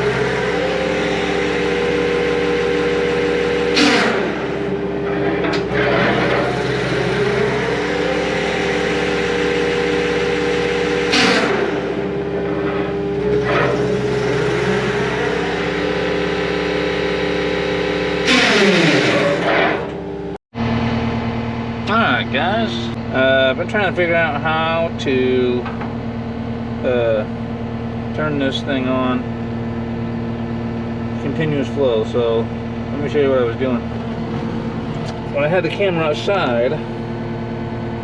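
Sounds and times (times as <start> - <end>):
track loader brush cutter humming: 0.0 - 38.0.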